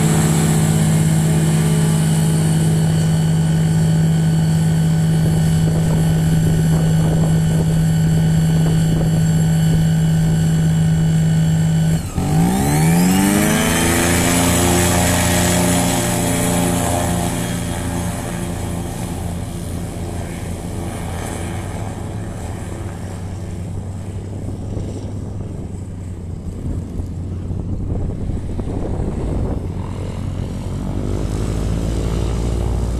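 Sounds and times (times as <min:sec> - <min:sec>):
propeller plane engine revving: 0:00.0 - 0:32.9.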